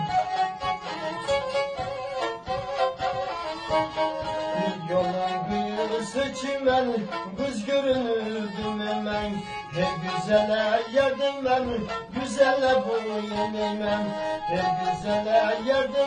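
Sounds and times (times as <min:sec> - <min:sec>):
bowed fiddle folk melody: 0:00.0 - 0:16.0.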